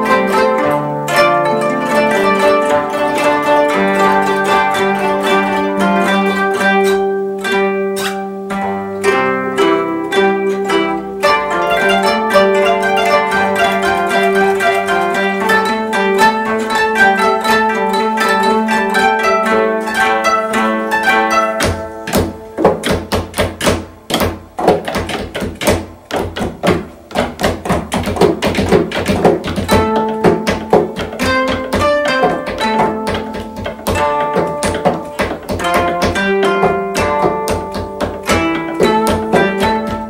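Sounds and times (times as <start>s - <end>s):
koto ensemble playing: 0.0s - 40.0s.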